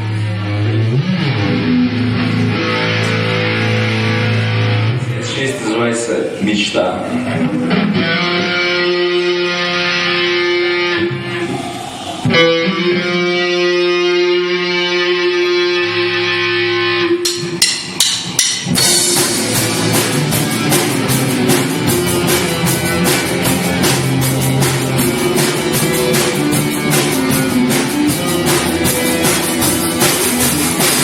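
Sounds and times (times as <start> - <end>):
electric guitar chords: 0.0 - 5.7, 7.0 - 31.0
live rock band playing: 0.0 - 5.7, 7.0 - 31.0.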